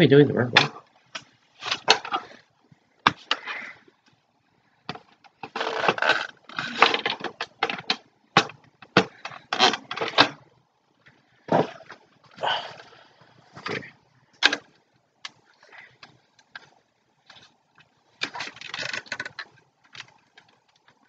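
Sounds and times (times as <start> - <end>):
plastic handling noise: 0.0 - 4.2, 4.8 - 21.0.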